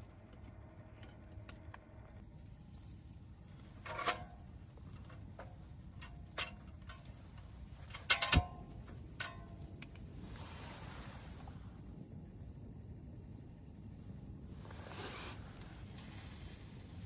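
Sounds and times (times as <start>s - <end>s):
soft rustling hiss: 2.3s - 17.0s.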